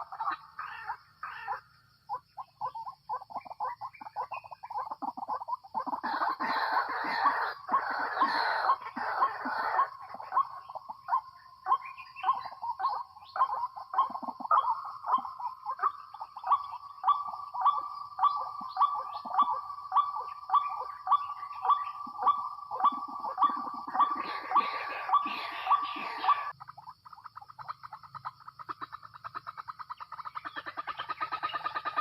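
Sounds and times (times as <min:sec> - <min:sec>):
waterhen calling: 0:03.6 - 0:32.0.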